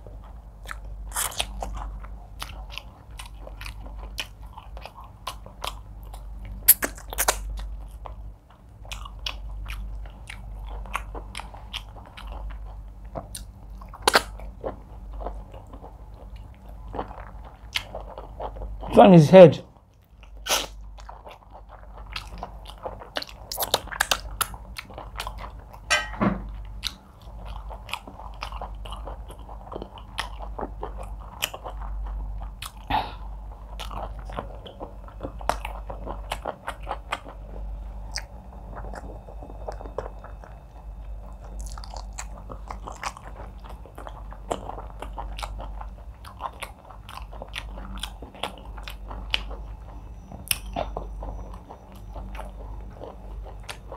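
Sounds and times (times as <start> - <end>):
chewing with mouth clicks: 0.0 - 18.9, 19.7 - 25.9, 26.5 - 53.9.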